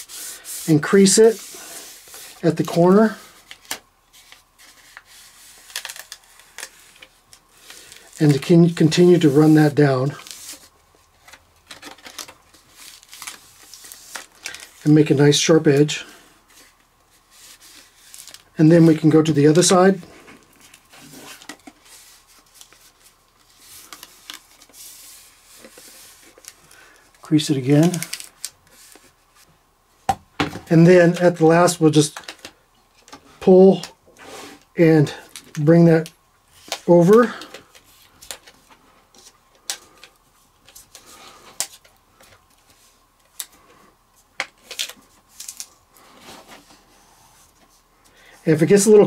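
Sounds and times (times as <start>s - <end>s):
contact paper rustling and rubbing: 0.0s - 29.5s, 36.5s - 47.9s.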